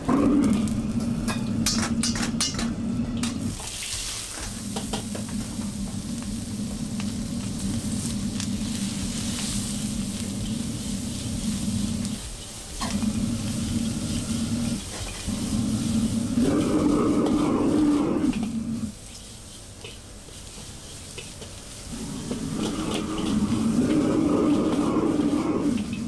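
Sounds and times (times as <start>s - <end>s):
food sizzling in a wok: 0.0s - 26.0s
gas burner low rumble: 0.0s - 26.0s.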